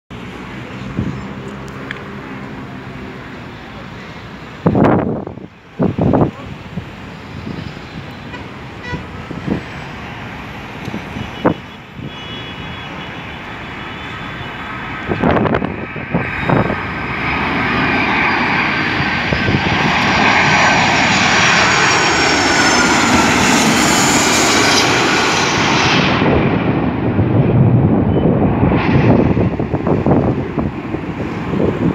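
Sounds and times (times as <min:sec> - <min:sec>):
jet airliner passing overhead: 0:00.1 - 0:31.9.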